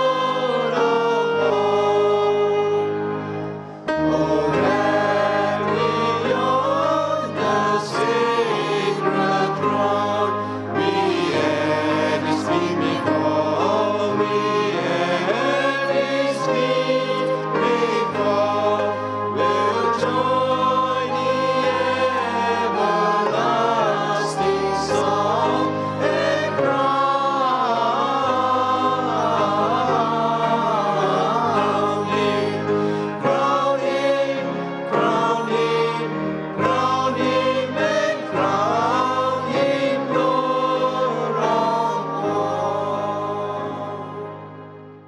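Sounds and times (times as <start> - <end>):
group singing a hymn in harmony: 0.0 - 45.0
instrumental accompaniment: 0.0 - 45.0.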